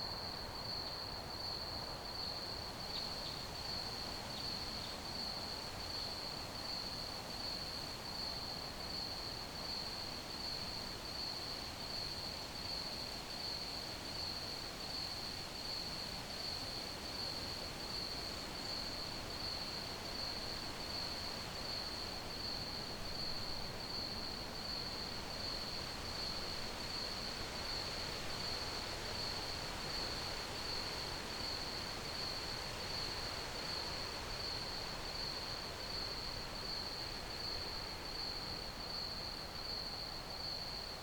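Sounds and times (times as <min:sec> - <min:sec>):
steady background hiss: 0:00.1 - 0:41.0.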